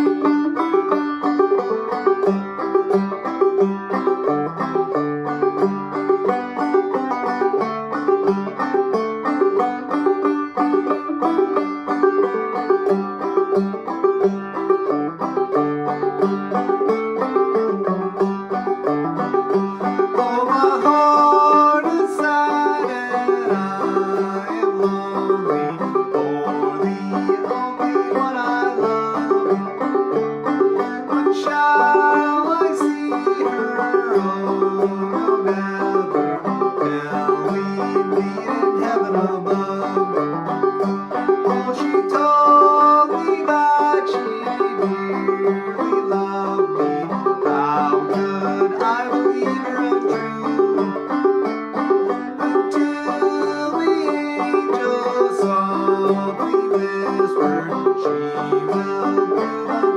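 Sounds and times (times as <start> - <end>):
banjo plucked melody: 0.0 - 59.9.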